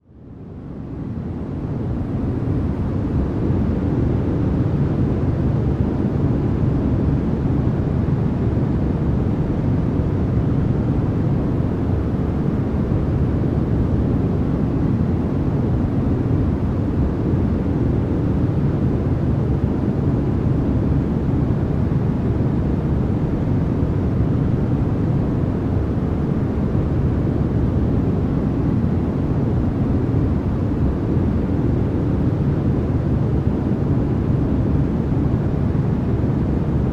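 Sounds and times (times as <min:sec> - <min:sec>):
deep rumbling white noise: 0:00.0 - 0:36.9.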